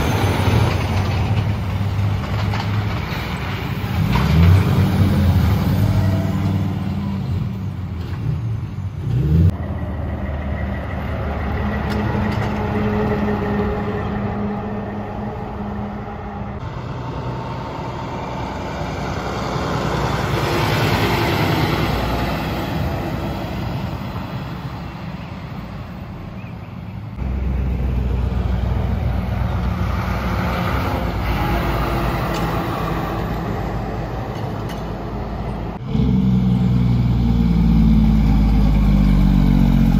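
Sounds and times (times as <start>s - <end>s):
diesel truck engines: 0.0s - 39.9s
tyres humming on road: 0.0s - 39.9s.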